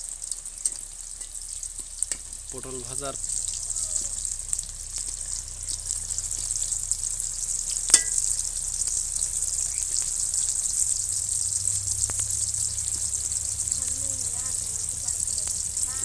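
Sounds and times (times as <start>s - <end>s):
gourds sizzling in hot oil: 0.0s - 16.0s.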